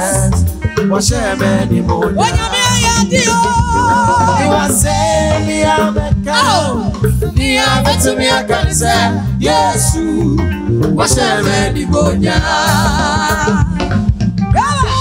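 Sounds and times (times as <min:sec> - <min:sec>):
live band playing: 0:00.0 - 0:15.0
people singing into microphones: 0:00.0 - 0:15.0.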